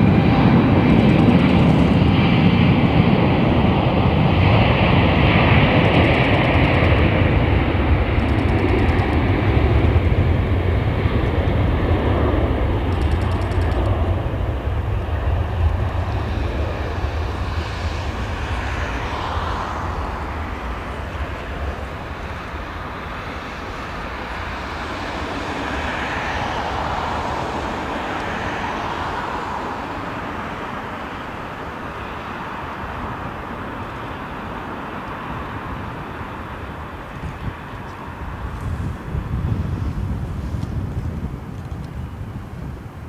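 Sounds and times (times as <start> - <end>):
jet engines roaring at take-off: 0.0 - 43.0.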